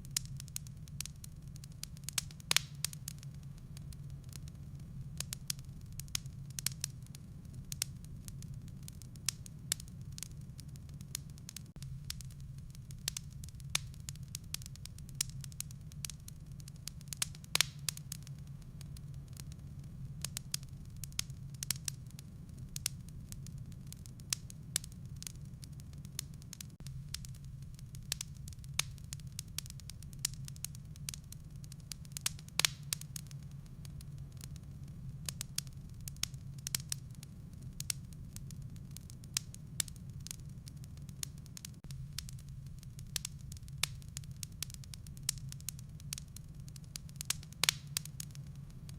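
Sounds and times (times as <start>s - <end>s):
low rumble of burning logs: 0.0s - 48.9s
wood fire crackling: 0.0s - 48.9s.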